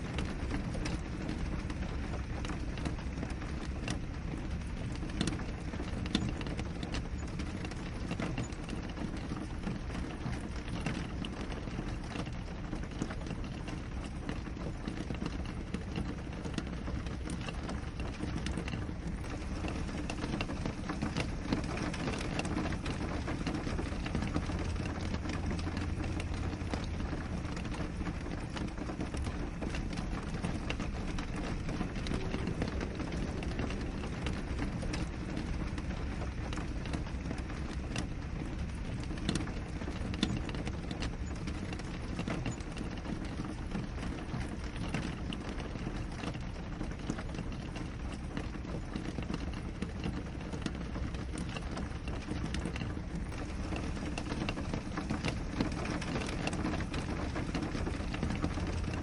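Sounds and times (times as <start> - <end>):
rain on a window pane: 0.0 - 59.0.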